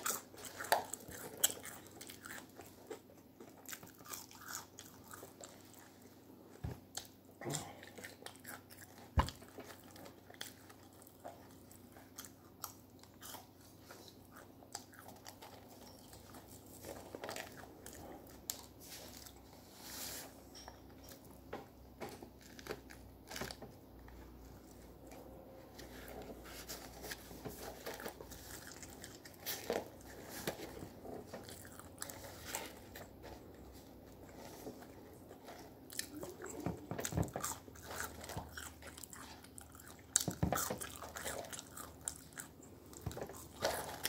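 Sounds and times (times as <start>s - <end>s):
person chewing crunchy food: 0.0s - 19.6s, 22.4s - 44.0s.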